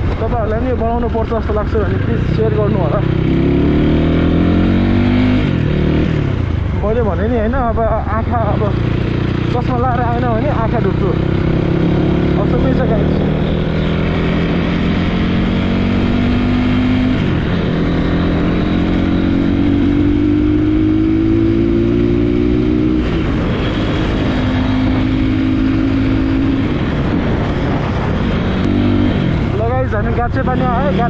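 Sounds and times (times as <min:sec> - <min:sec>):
motorcycle engine running: 0:00.0 - 0:31.0
wind and road noise: 0:00.0 - 0:31.0.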